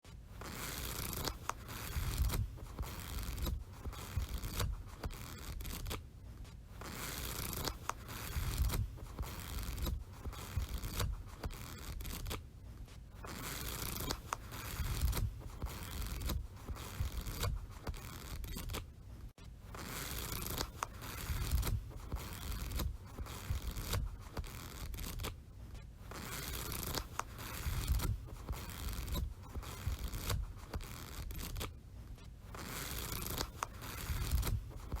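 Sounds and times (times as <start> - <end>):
paper rustling and tearing: 0.3 - 25.4, 26.0 - 31.8, 32.4 - 35.0.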